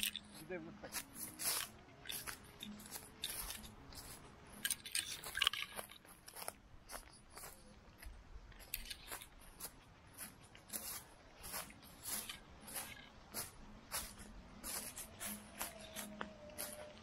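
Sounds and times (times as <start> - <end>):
dry leaves crunching: 0.0 - 17.0.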